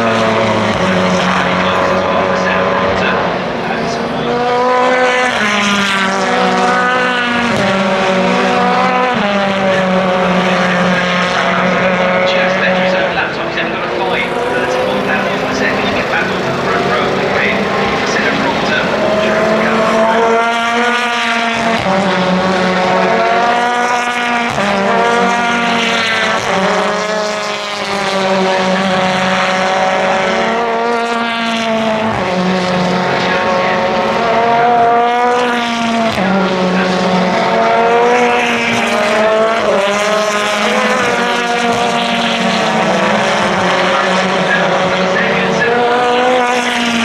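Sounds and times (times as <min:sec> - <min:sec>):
racing car engines at full throttle: 0:00.0 - 0:47.0.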